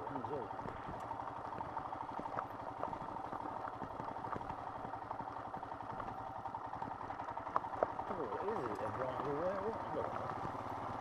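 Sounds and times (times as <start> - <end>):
motorcycle engine running: 0.0 - 11.0
bike rattling over stones: 0.5 - 11.0.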